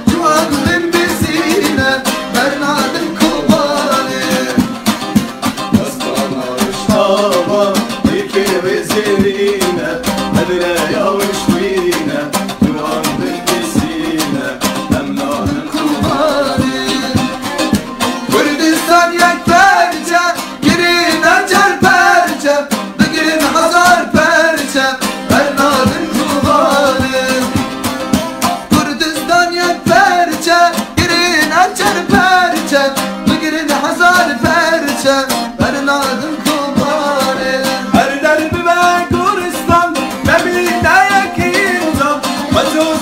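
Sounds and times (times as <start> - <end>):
person singing: 0.0 - 43.0
plucked strings: 0.0 - 43.0.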